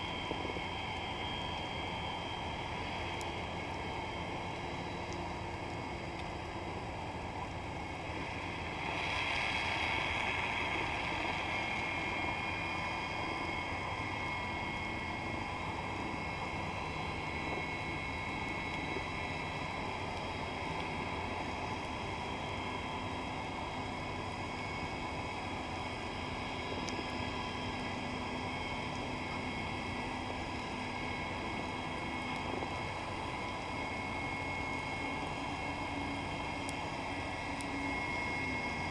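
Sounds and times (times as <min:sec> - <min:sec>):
underwater drone: 0:00.0 - 0:38.9.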